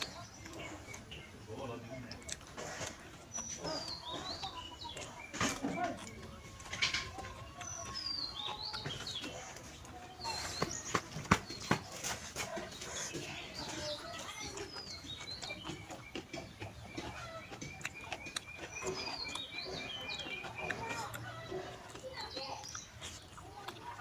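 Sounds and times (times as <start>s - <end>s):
birds chirping falling calls: 0.0s - 24.0s.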